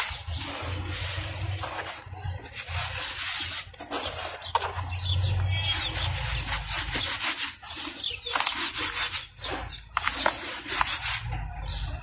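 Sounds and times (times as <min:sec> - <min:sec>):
hands sifting powdered charcoal: 0:00.0 - 0:12.0.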